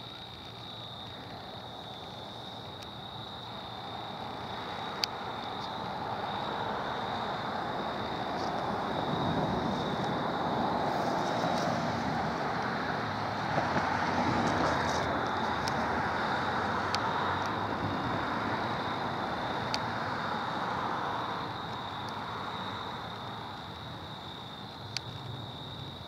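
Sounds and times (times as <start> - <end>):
distant road traffic: 0.0 - 26.0.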